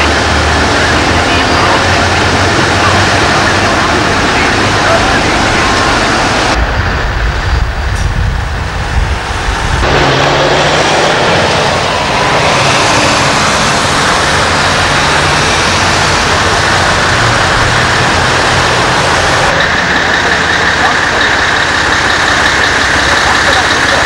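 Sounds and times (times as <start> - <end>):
diesel truck engine running: 0.0 - 24.0
low rumble: 0.0 - 24.0.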